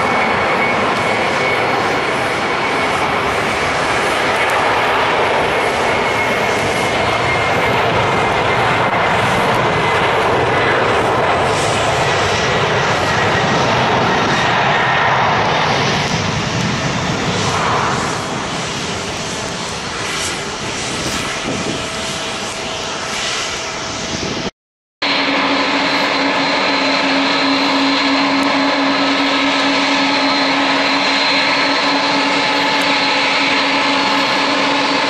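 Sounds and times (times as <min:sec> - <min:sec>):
jet engines rushing: 0:00.0 - 0:35.0.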